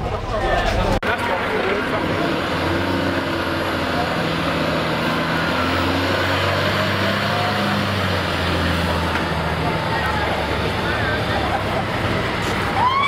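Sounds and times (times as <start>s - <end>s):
fire engine diesel engine: 0.0s - 13.0s.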